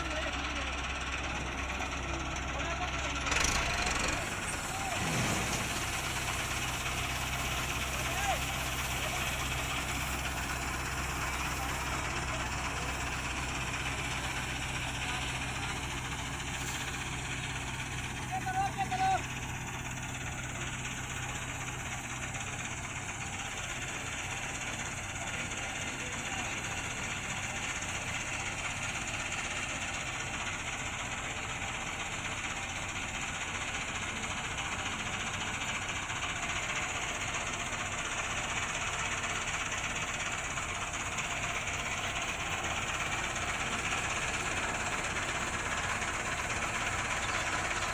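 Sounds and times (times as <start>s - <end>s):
diesel engine droning: 0.0s - 47.9s
hissing machinery noise: 3.1s - 30.3s, 33.9s - 47.9s.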